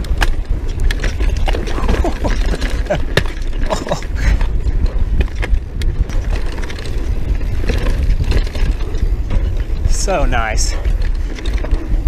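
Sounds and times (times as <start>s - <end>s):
bike clacking and rattling: 0.0s - 12.0s
tyres rolling on dirt: 0.0s - 12.0s
wind rumble on microphone: 0.0s - 12.0s.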